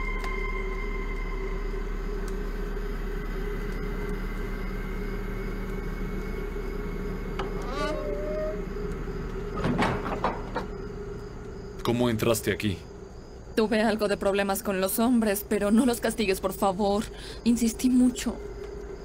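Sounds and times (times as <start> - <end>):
low ambient drone: 0.0 - 19.0.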